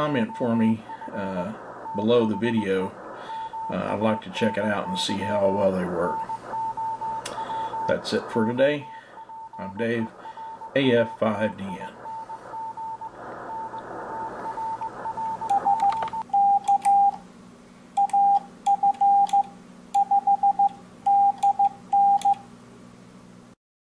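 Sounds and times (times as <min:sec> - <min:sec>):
keyer sidetone: 0:00.0 - 0:17.2, 0:18.0 - 0:22.4
morse code tones: 0:00.0 - 0:17.2, 0:18.0 - 0:22.4.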